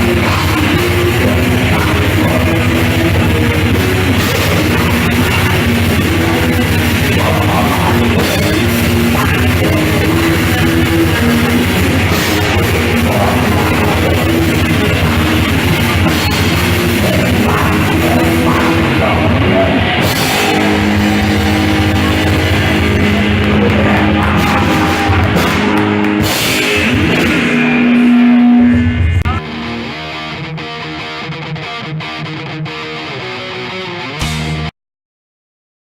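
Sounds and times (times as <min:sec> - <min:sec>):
drums and cymbals: 0:00.0 - 0:29.2, 0:34.2 - 0:34.7
distorted electric guitars: 0:00.0 - 0:34.7.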